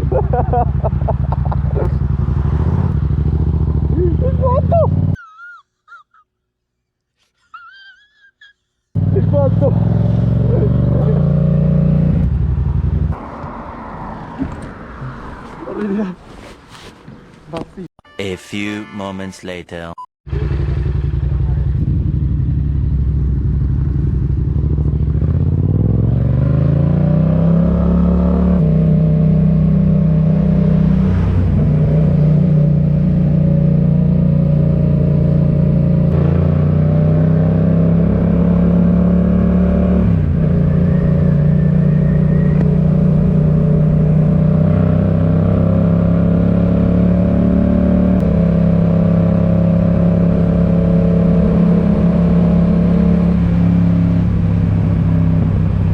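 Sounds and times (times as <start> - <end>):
motorcycle engine revving: 0.0 - 5.2, 9.0 - 15.7, 20.3 - 55.9.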